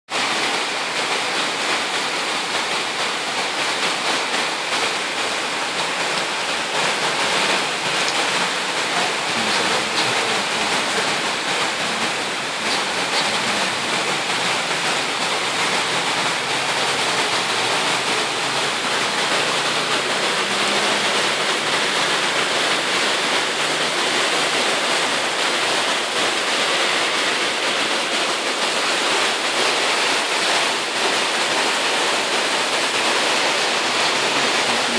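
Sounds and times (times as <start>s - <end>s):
very heavy rain pouring: 0.1s - 34.9s.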